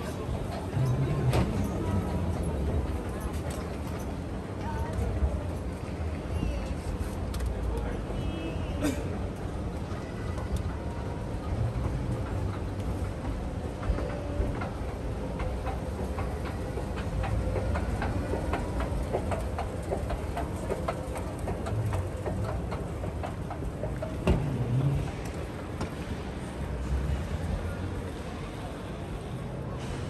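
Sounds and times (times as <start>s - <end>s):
low rumble of hall and escalator: 0.0s - 30.0s.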